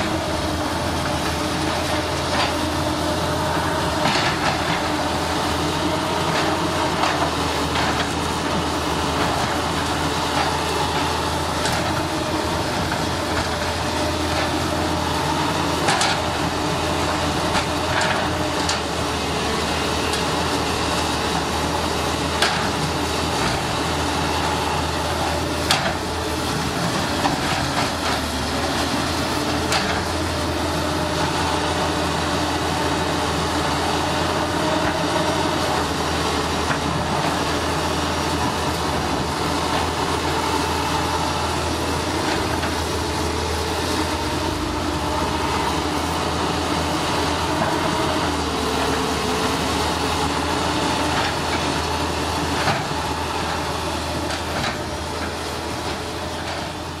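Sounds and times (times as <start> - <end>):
excavator diesel engines: 0.0 - 57.0.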